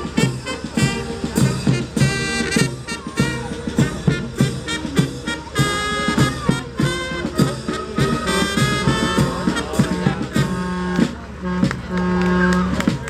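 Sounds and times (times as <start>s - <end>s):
upbeat swing jazz with brass: 0.0s - 13.0s.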